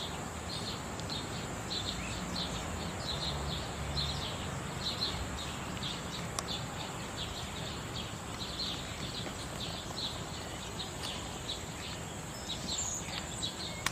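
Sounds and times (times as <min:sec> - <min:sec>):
steady low hiss: 0:00.0 - 0:13.9.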